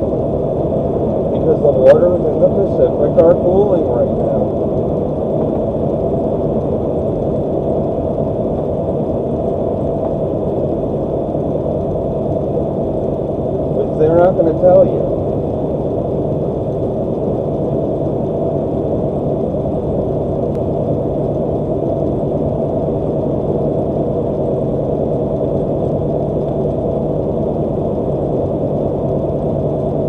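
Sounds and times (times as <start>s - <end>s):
truck engine and road noise: 0.0s - 24.1s.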